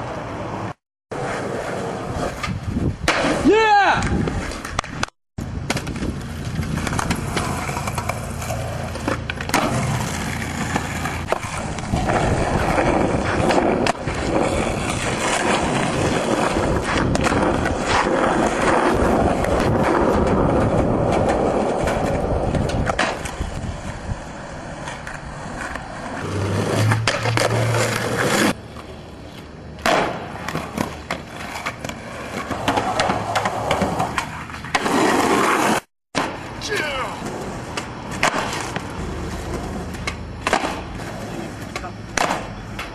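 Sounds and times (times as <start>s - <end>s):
skateboard wheels rolling on concrete: 0.0s - 42.9s
skateboard clacking on ground: 2.2s - 42.9s.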